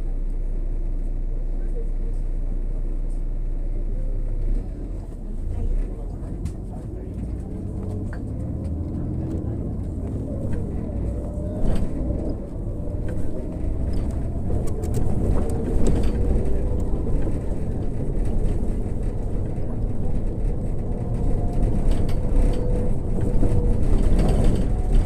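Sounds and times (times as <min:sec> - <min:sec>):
bus engine rumble: 0:00.0 - 0:25.0.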